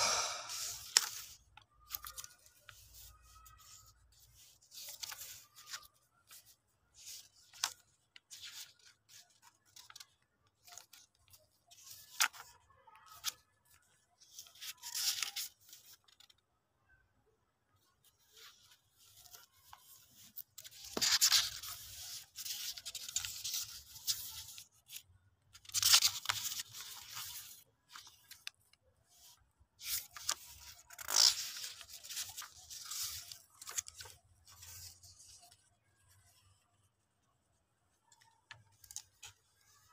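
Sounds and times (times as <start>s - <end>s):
paper rustling and crinkling: 0.0s - 16.5s, 17.8s - 39.9s.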